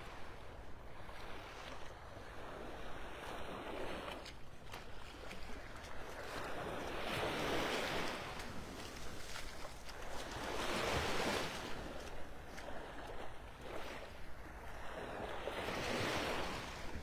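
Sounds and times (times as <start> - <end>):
small waves on sandy beach: 0.0 - 17.0
wind rumble on microphone: 0.0 - 17.0.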